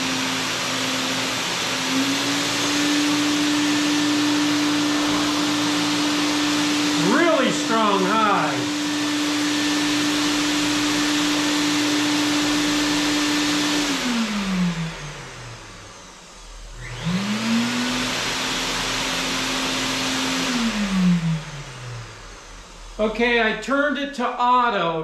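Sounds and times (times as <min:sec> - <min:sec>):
blower motor whine and air rush: 0:00.0 - 0:24.9.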